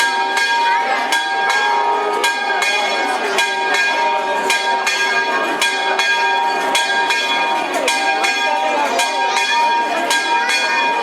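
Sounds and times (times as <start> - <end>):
church bells pealing: 0.0 - 11.0
crowd voices: 0.0 - 11.0.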